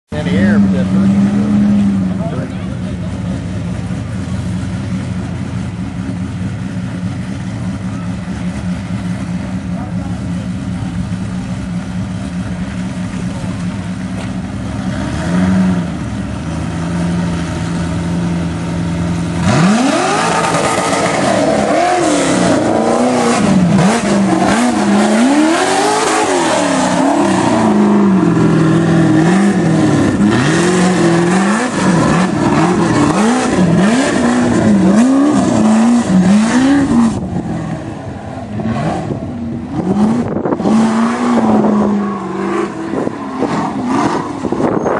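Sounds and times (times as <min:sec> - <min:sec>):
buggy engine idling and revving: 0:00.1 - 0:44.9.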